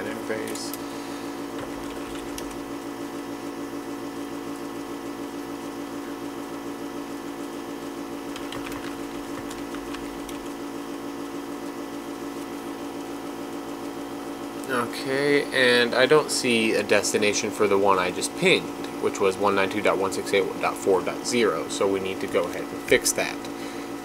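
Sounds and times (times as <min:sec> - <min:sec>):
fluttering machine hum: 0:00.0 - 0:24.0.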